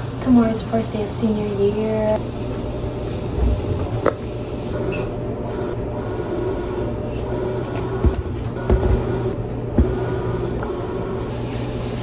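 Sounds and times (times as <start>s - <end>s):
washing machine churning: 0.0s - 12.0s.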